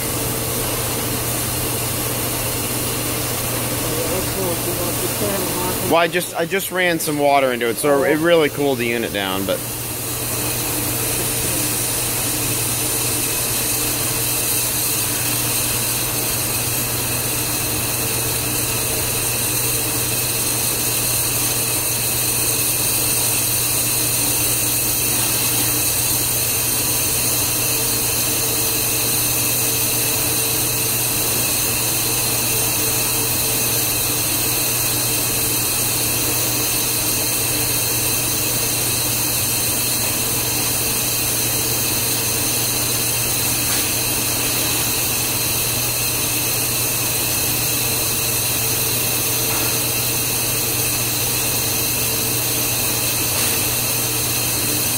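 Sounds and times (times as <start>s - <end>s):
steam hissing: 3.6s - 54.9s.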